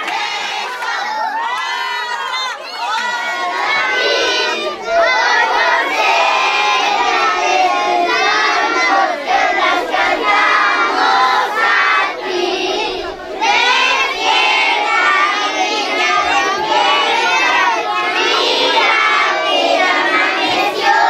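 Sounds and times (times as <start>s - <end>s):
crowd shouting and cheering: 0.0s - 21.0s.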